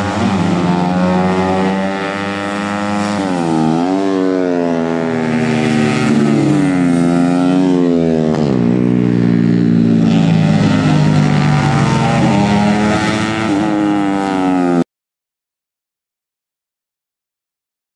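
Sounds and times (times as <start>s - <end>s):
motorcycle engines revving hard: 0.0s - 14.8s.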